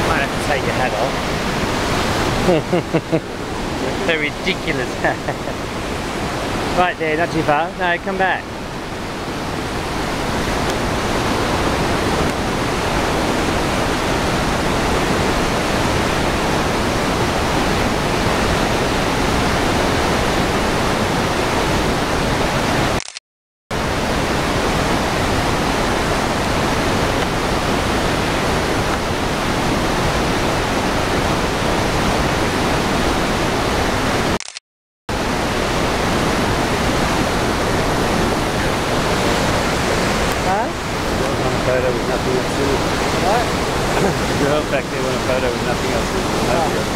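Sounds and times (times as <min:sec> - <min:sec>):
waterfall roaring: 0:00.0 - 0:23.0, 0:23.8 - 0:34.4, 0:35.1 - 0:46.9.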